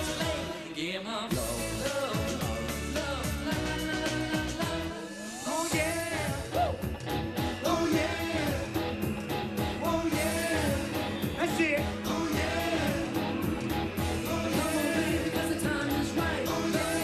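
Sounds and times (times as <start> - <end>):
men singing pop song over beat: 0.0 - 17.0.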